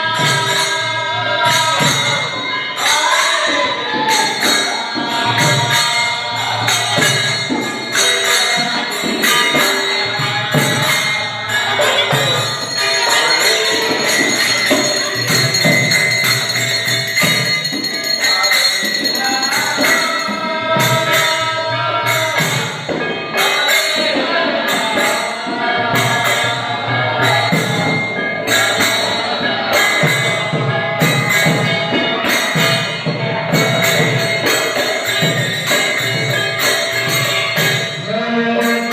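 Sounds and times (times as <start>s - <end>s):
music with jingling percussion: 0.0s - 38.9s.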